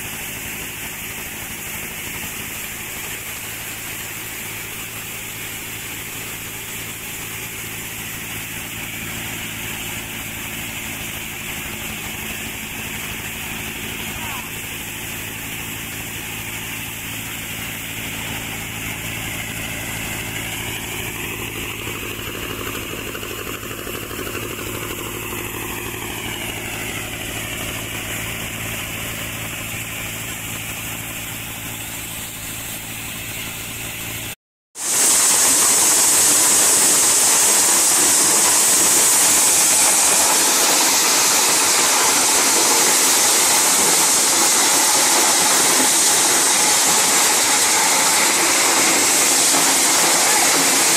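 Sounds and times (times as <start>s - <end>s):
engine hum: 0.0s - 50.9s.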